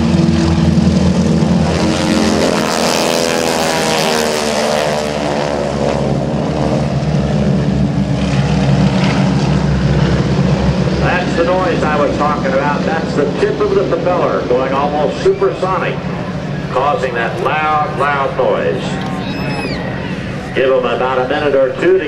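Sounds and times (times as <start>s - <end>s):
propeller planes passing: 0.0s - 22.0s.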